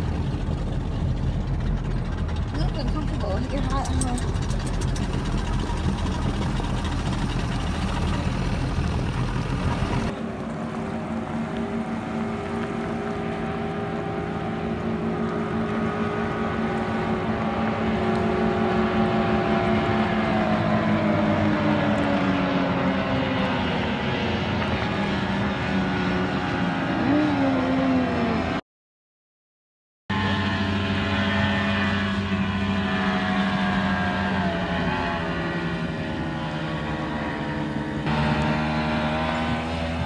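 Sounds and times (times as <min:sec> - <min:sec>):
low rumble aboard boat: 0:00.0 - 0:28.5, 0:30.1 - 0:40.0
motorboat engines droning: 0:00.0 - 0:28.6, 0:30.1 - 0:40.0.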